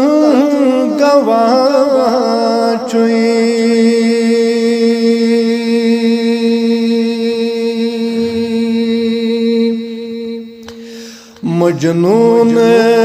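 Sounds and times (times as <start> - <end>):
man singing a long note: 0.0 - 10.6, 11.4 - 13.0.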